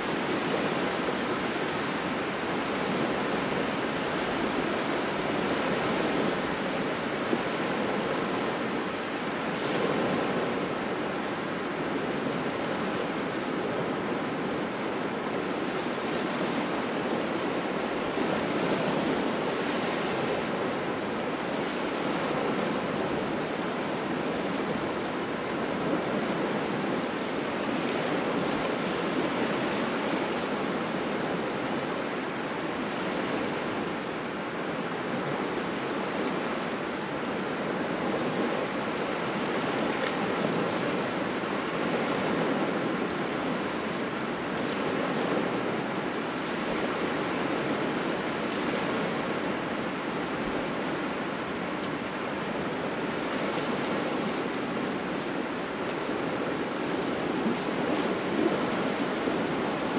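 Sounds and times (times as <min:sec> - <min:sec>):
small waves washing ashore: 0:00.0 - 0:59.9.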